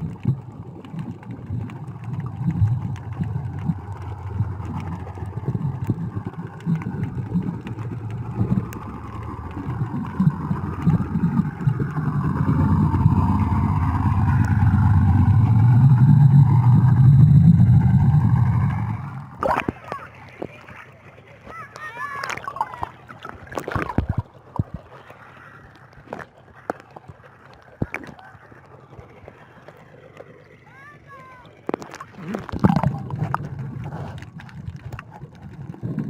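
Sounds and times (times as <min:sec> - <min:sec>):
underwater clicks: 0:00.0 - 0:30.6, 0:31.6 - 0:36.0
low rumbling water: 0:00.0 - 0:36.0
motorboat engine underwater: 0:00.0 - 0:36.0.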